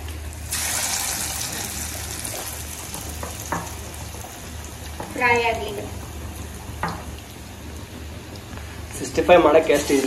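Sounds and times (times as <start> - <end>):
meat sizzling in hot oil: 0.3 - 10.0.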